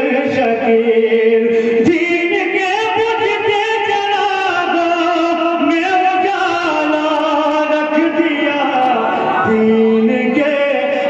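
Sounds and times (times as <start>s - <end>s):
man singing over loudspeakers: 0.0s - 11.0s.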